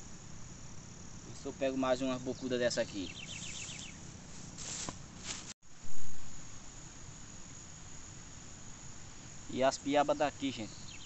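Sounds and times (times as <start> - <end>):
insect chorus hissing: 0.0 - 11.0.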